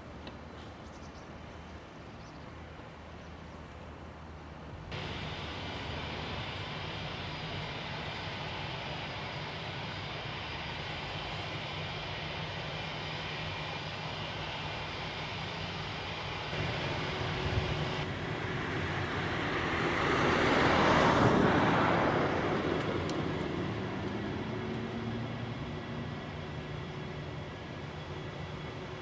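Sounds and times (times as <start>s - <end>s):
airliner engines passing by: 0.0s - 29.0s.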